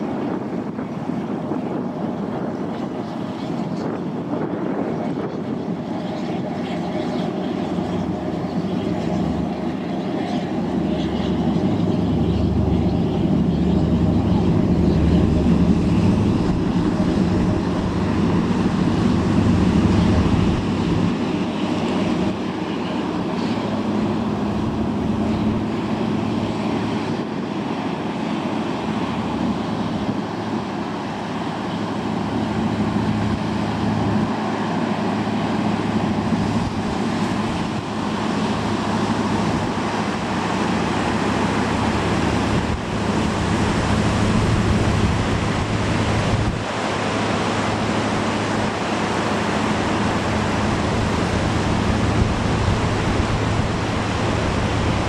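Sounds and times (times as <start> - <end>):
ferry engine drone: 0.0 - 55.0
rushing boat wake: 0.0 - 55.0
wind: 0.0 - 55.0.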